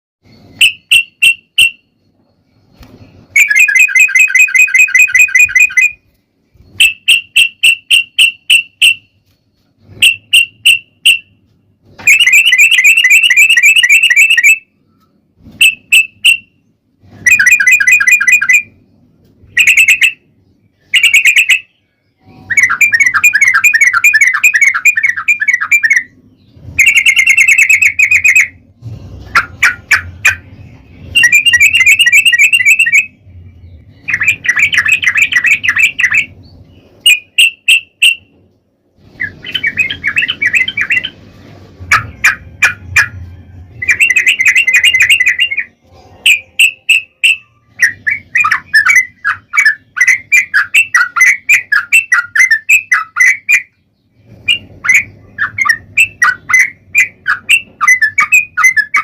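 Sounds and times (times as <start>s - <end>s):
bulbul chattering song: 0.3s - 38.4s, 39.0s - 59.0s.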